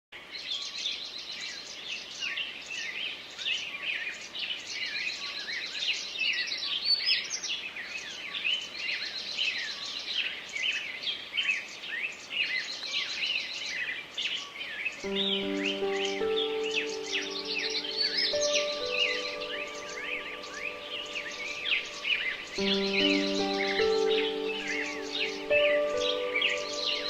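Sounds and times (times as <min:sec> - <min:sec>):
songbirds chorus: 0:00.2 - 0:27.0.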